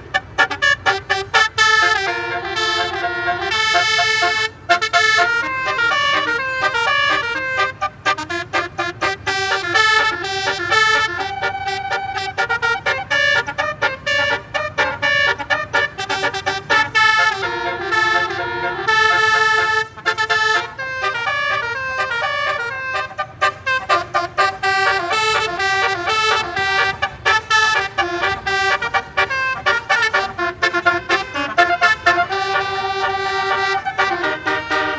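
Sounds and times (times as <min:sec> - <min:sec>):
melodic bus horn: 0:00.0 - 0:34.9.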